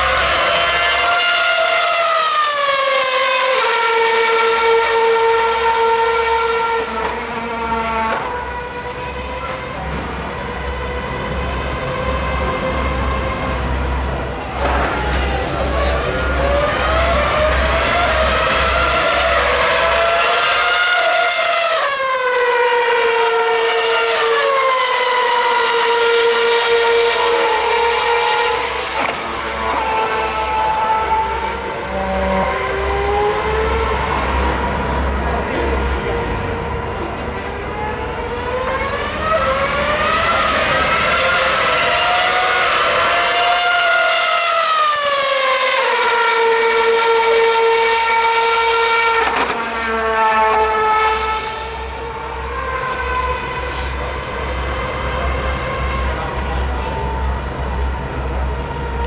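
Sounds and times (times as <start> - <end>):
racing car engine at high revs: 0.0 - 59.0.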